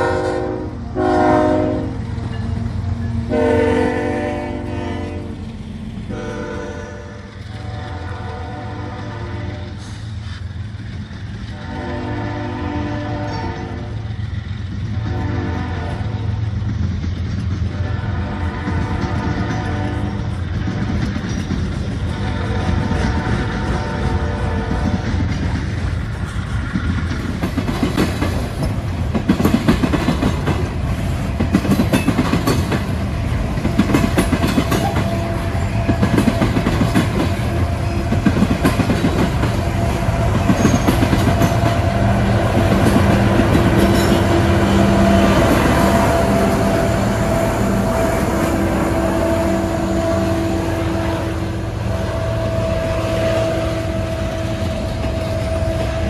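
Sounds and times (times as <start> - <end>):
train wheels banging over crossing: 5.0 - 50.8.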